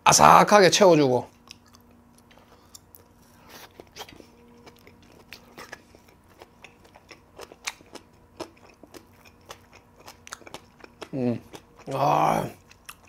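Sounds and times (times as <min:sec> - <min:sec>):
crunchy chewing: 0:01.3 - 0:13.0.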